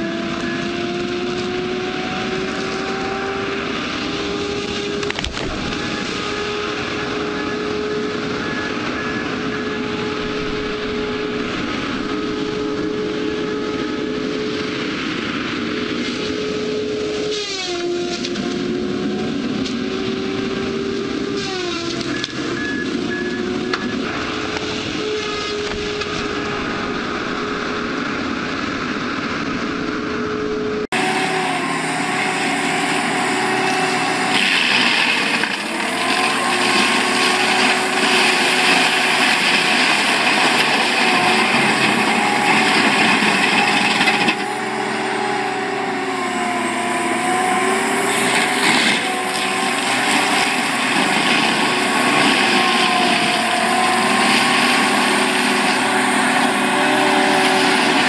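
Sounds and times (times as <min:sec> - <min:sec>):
heavy diesel machinery cutting trees: 0:00.0 - 0:58.0
mulcher drum grinding wood: 0:00.0 - 0:58.0.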